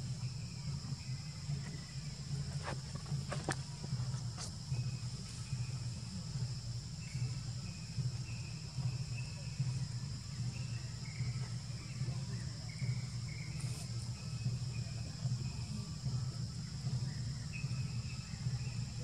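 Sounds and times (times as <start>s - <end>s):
constant low rumble: 0.0s - 19.0s
insects droning: 0.0s - 19.0s.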